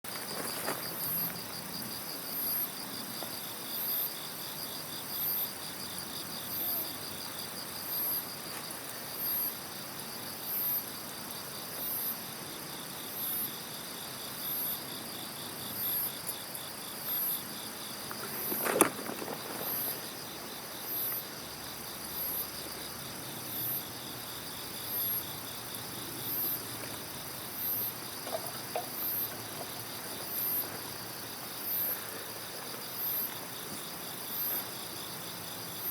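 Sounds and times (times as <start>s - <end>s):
insect trill: 0.1s - 35.9s
insects chirping: 0.1s - 35.9s.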